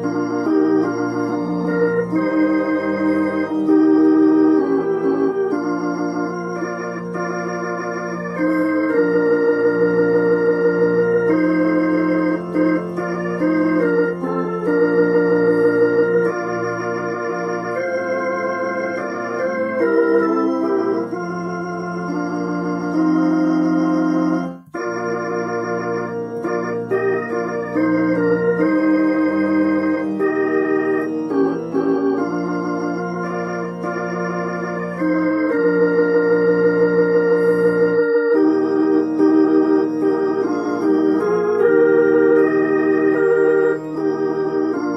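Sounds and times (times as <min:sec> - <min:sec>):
organ hymn in held chords: 0:00.0 - 0:44.9.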